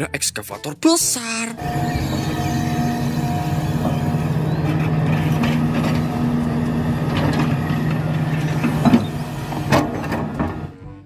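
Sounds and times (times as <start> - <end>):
excavator diesel engine: 1.6 - 11.0.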